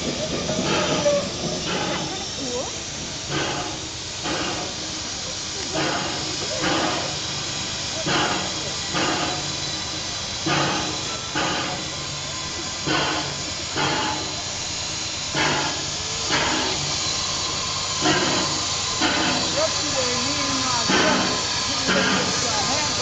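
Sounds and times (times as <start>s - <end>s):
steam hissing: 0.0s - 23.0s
steam locomotive exhaust chuffs: 0.0s - 23.0s.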